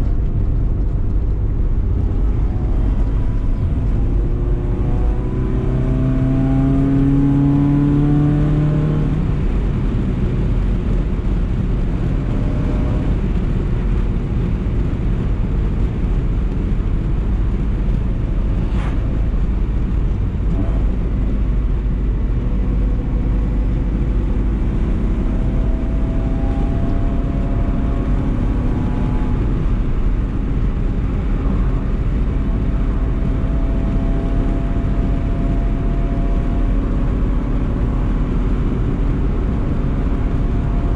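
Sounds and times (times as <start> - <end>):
car engine drone: 0.0 - 40.9
road noise: 0.0 - 40.9.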